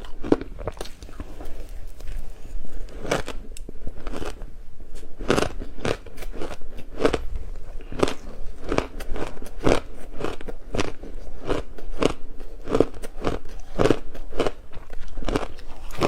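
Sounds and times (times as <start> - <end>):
ice being chewed: 0.0 - 4.5, 5.2 - 16.0.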